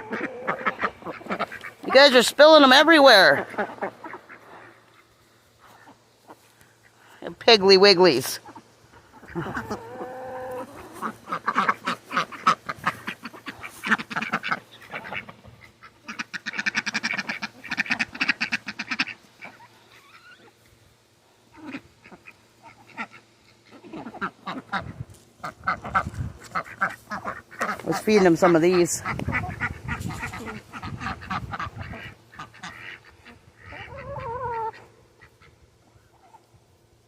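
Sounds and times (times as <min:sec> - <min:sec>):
ducks quacking: 0:00.0 - 0:07.2, 0:08.1 - 0:20.6, 0:21.4 - 0:36.5.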